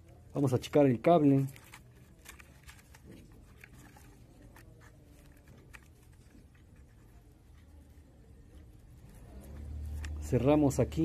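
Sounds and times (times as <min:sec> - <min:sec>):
wires handled clicks and rustles: 0:00.0 - 0:11.0.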